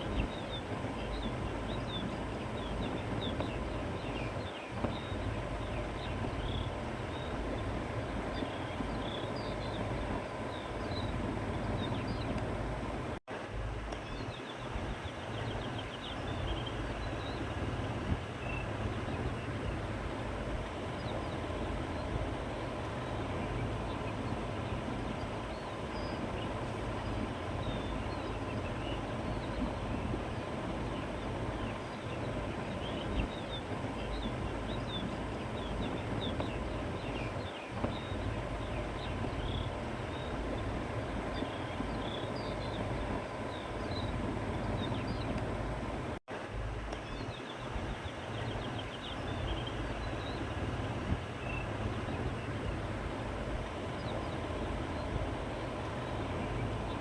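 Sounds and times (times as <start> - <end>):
small birds chirping: 0.0 - 12.8, 13.9 - 46.0, 46.9 - 57.0
wind blowing with low rumble: 0.0 - 57.0.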